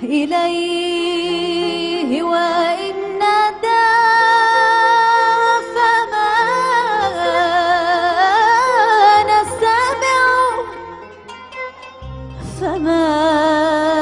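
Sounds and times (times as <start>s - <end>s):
woman singing wordless vowel: 0.0s - 10.6s, 12.4s - 14.0s.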